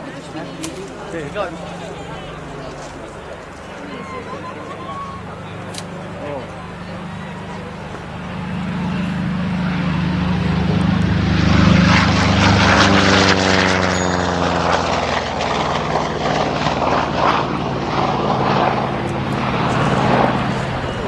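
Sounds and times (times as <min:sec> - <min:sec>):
propeller plane passing by: 0:00.0 - 0:21.0.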